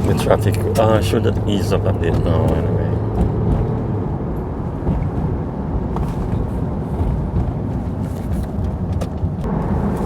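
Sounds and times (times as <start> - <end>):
tyre and engine rumble: 0.0 - 10.0.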